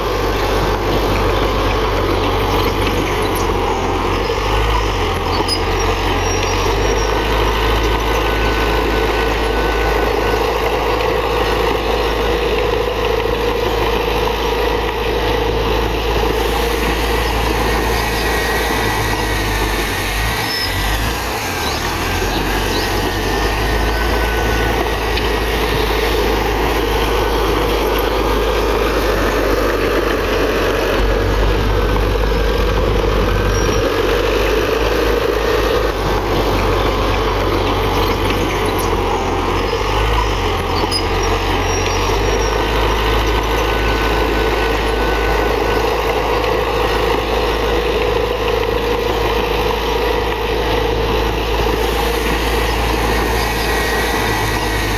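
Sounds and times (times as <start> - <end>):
diesel machinery engine rumble: 0.0 - 54.9.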